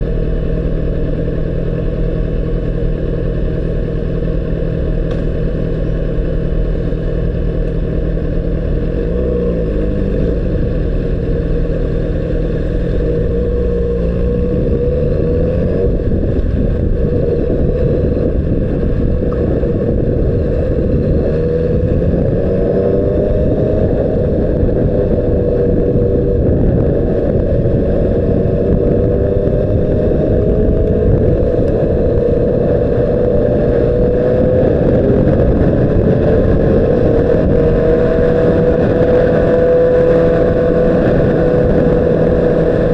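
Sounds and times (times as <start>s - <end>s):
motorcycle engine running: 0.0s - 42.9s
wind rumble on microphone: 0.0s - 42.9s.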